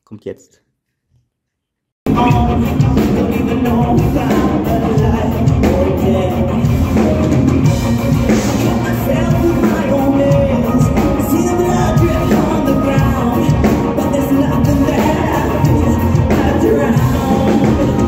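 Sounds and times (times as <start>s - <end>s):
live rock band playing: 2.1s - 18.0s.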